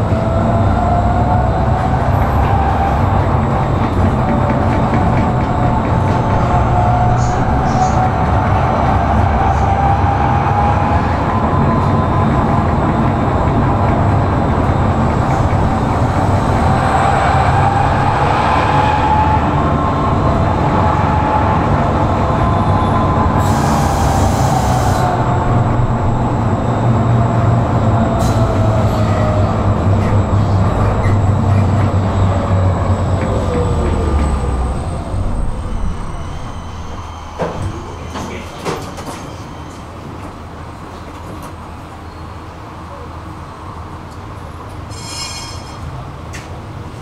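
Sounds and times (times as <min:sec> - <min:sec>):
tram wheels rumbling on rails: 0:00.0 - 0:47.0
tram whine: 0:00.0 - 0:47.0.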